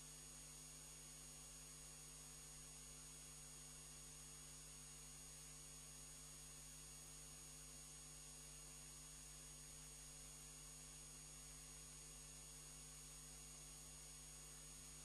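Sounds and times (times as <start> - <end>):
faint electrical hum with whine: 0.0 - 15.0.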